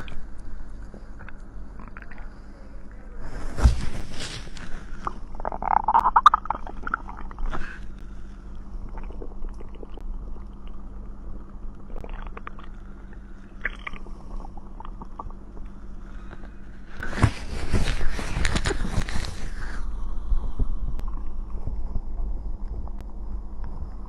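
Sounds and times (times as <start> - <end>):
steady low hum: 0.0 - 24.0
stomach gurgling and growling: 0.0 - 24.0.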